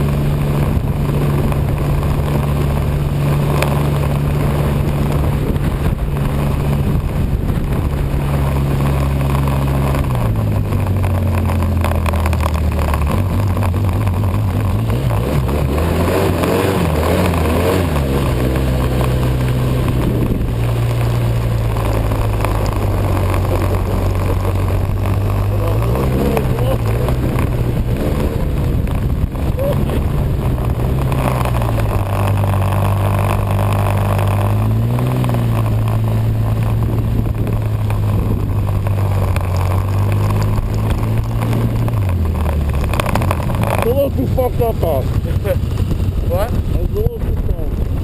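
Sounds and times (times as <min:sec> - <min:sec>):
constant rush of noise: 0:00.0 - 0:48.0
engine running: 0:00.0 - 0:48.0.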